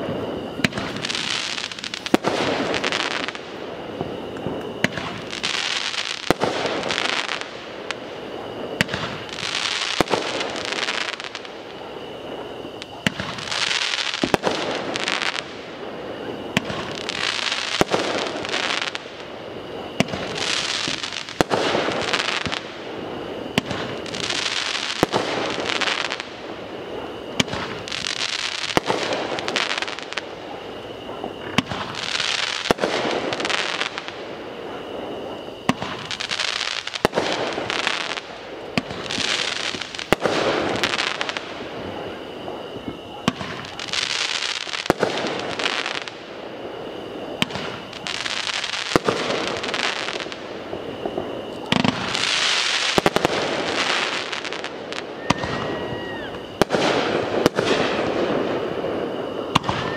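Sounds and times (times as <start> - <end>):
fireworks bangs: 0.0 - 59.9
fireworks hiss: 0.0 - 59.9.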